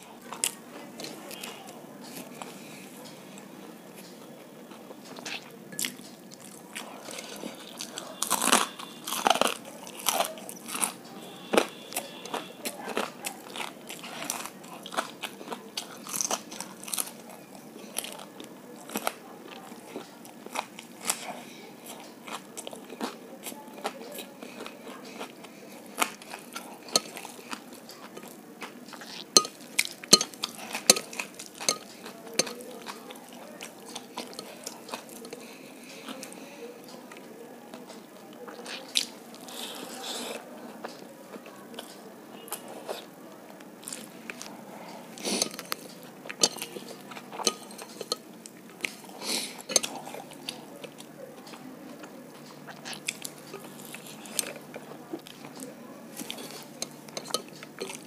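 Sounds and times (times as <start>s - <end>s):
chewing and crunching fried food: 0.0s - 58.0s.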